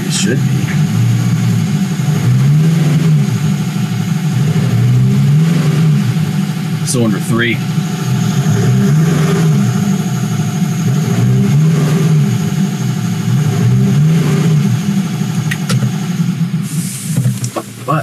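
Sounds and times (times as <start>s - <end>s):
car engine running unevenly: 0.0s - 18.0s.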